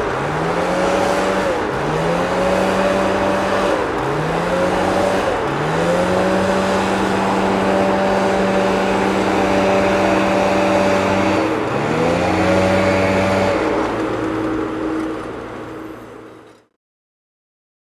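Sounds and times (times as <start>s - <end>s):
leaf vacuum motor hum: 0.0s - 15.8s.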